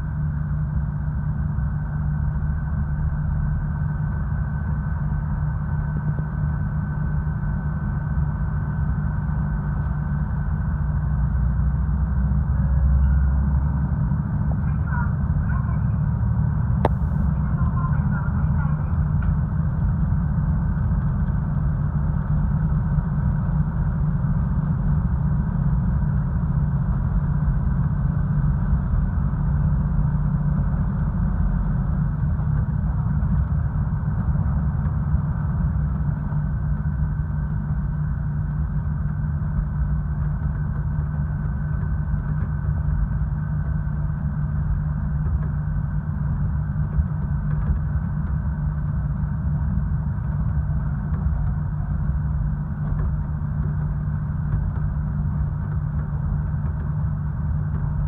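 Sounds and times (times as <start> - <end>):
diesel railcar engine humming: 0.0 - 58.0.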